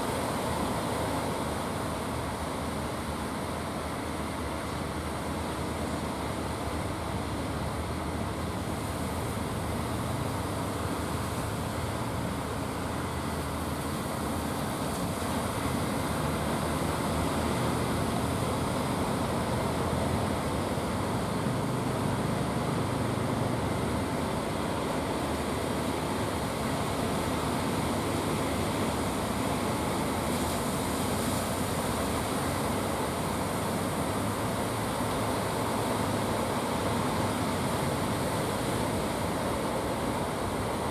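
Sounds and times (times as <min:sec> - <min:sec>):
boat engines humming: 0:00.0 - 0:40.9
breaking surf: 0:00.0 - 0:40.9.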